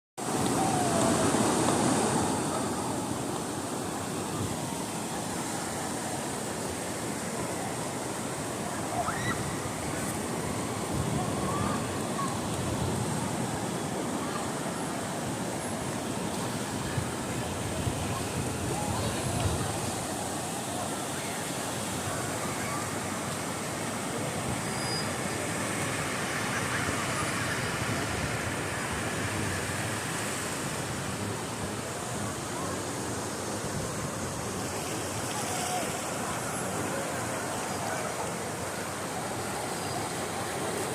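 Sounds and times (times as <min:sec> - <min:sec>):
sea surf washing onto beach: 0:00.2 - 0:40.9.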